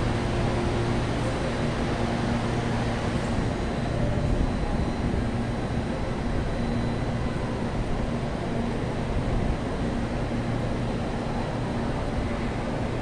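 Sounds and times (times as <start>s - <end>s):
faint train hum: 0.0s - 13.0s.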